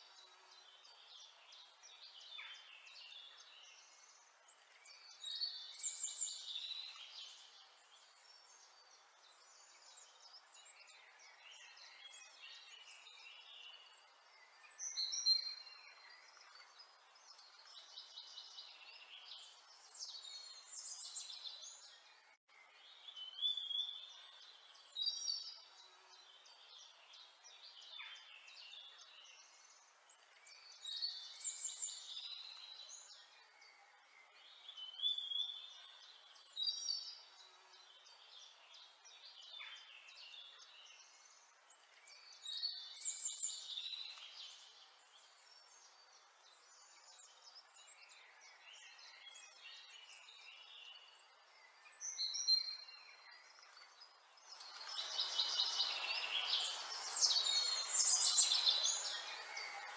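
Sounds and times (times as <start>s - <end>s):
birds chirping and trilling: 0.0s - 59.9s
faint hiss: 0.0s - 59.9s.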